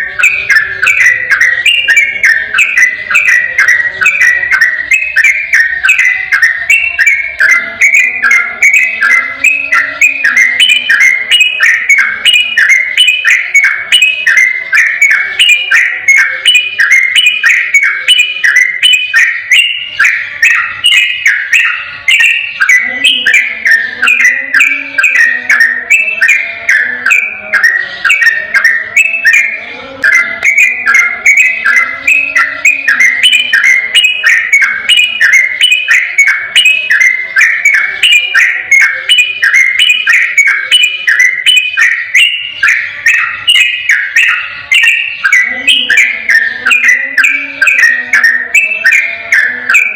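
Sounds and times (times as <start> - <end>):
bird rapid chirping song: 0.0 - 49.9.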